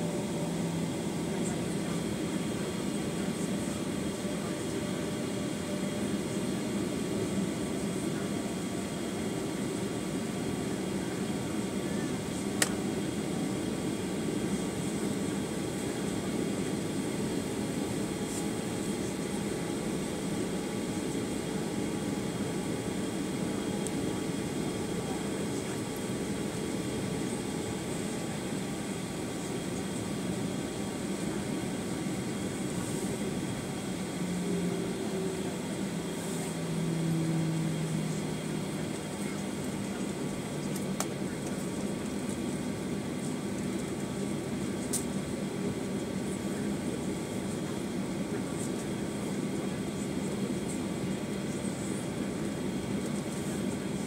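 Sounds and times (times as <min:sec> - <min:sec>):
jet engines idling: 0:00.0 - 0:54.0.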